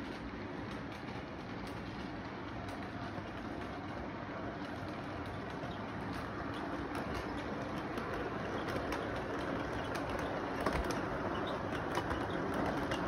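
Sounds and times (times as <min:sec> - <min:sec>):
toy train running on plastic track: 0:00.0 - 0:13.0.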